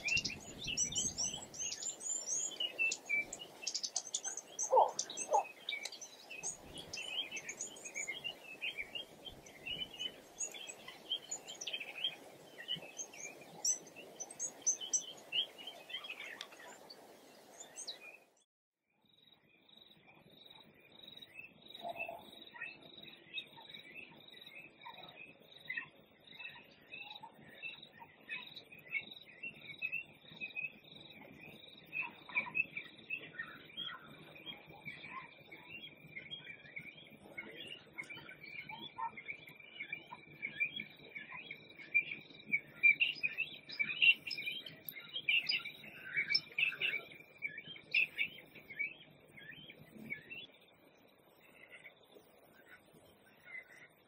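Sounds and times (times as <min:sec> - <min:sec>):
small birds chirping: 0:00.0 - 0:18.4, 0:19.1 - 0:54.0.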